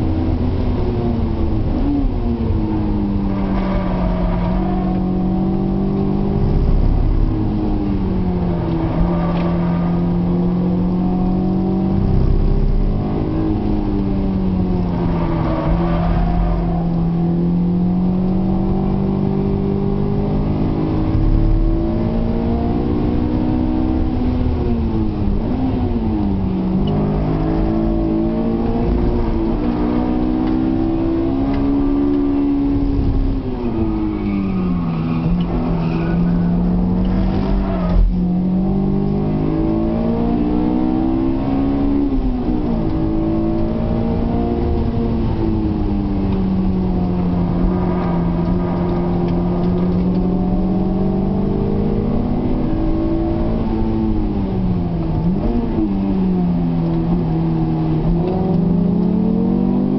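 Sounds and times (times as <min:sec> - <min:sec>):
car engine revving and shifting: 0:00.0 - 0:59.9.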